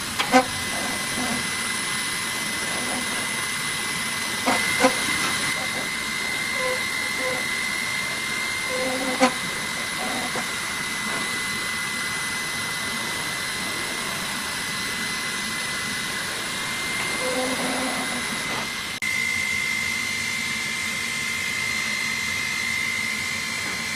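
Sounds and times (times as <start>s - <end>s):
laser cutter hissing and whining: 0.0s - 23.9s.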